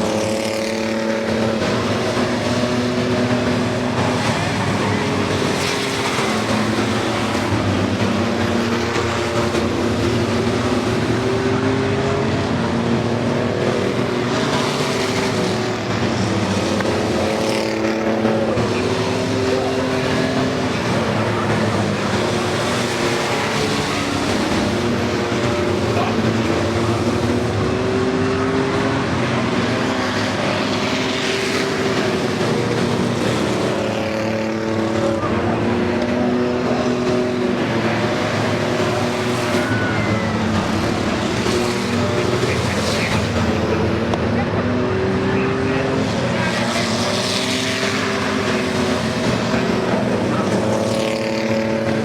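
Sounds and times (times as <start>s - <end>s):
racing truck engines: 0.0s - 52.0s.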